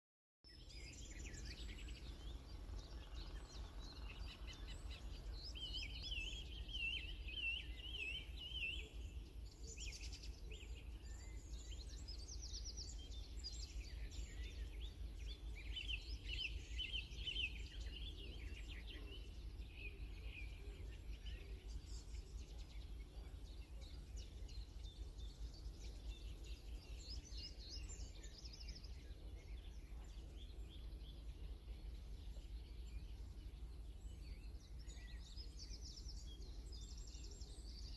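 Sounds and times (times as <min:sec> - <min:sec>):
small birds chirping: 0:00.4 - 0:37.9.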